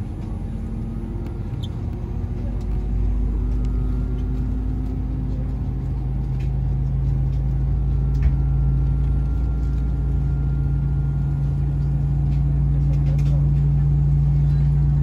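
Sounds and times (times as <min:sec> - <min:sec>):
airplane cabin drone: 0:00.0 - 0:15.0.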